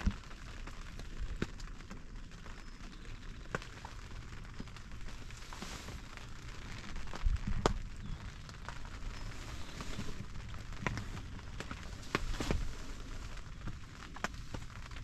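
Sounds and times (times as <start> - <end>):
rain pattering on fabric: 0.0 - 15.0.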